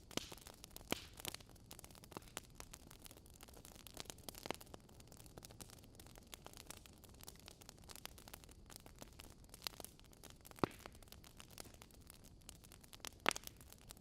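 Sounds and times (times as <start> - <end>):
fire crackling: 0.0 - 14.0
fire popping loudly: 0.0 - 14.0.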